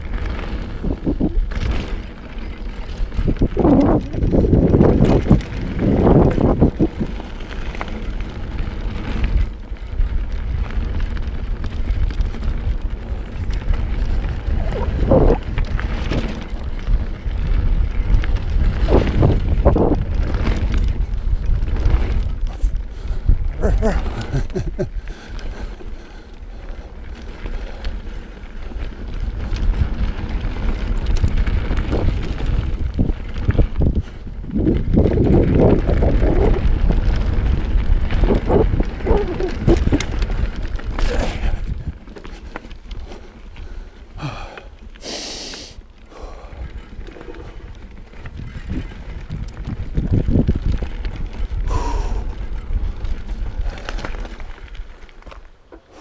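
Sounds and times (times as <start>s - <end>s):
wind buffeting microphone: 0.0s - 45.0s, 46.0s - 55.0s
bike clicks and rattles: 0.0s - 56.0s
bike tyres rolling on gravel: 0.0s - 56.0s.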